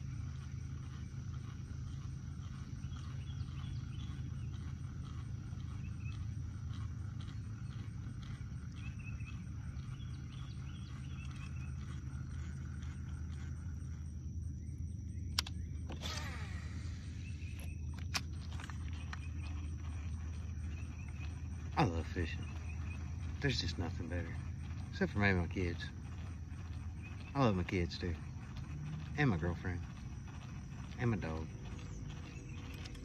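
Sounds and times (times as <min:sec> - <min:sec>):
faint wild animal calls: 0:00.0 - 0:33.0
steady low rumble: 0:00.0 - 0:33.0.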